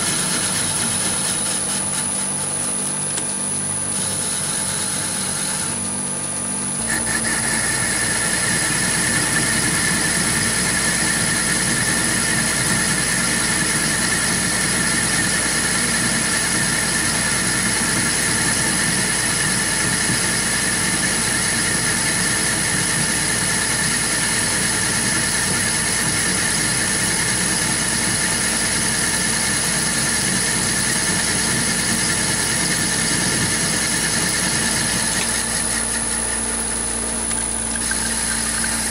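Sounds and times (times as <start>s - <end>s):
high-pitched cutting whine: 0.0s - 38.9s
lathe running: 0.0s - 38.9s.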